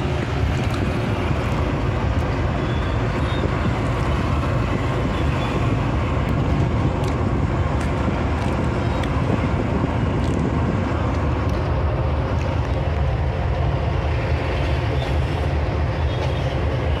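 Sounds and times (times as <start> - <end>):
bus rumble from inside: 0.0 - 17.0.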